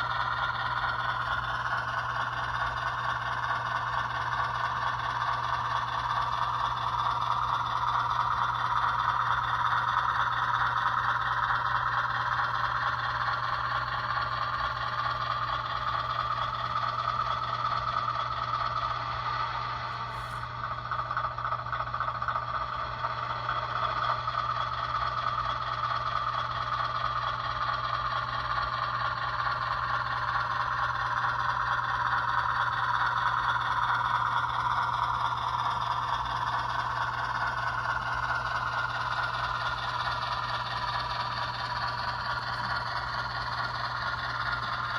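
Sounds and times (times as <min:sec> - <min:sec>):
model train running on track: 0:00.0 - 0:44.9.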